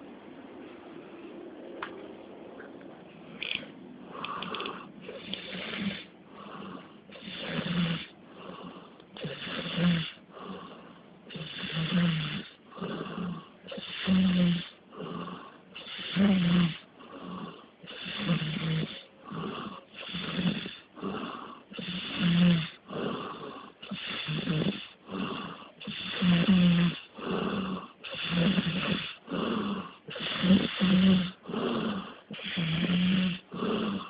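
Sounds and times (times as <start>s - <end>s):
man snoring: 4.1s - 34.0s.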